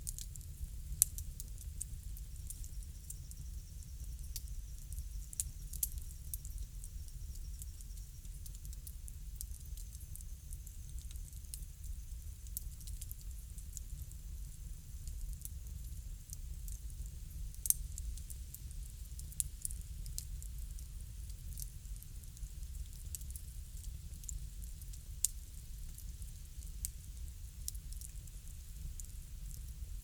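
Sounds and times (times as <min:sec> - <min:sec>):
bonfire crackling and popping: 0:00.0 - 0:30.0
low steady rumble: 0:00.0 - 0:30.0.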